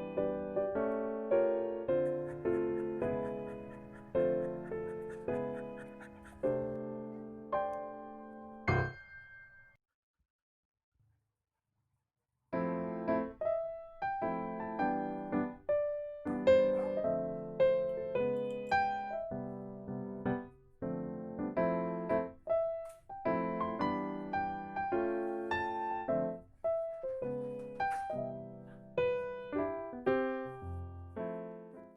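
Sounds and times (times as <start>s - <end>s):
gentle piano melody: 0.0s - 9.6s, 12.6s - 31.9s.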